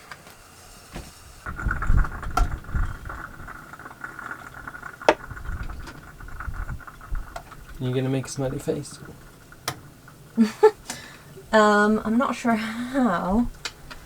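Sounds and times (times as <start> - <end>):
steady faint hiss: 0.0 - 14.0.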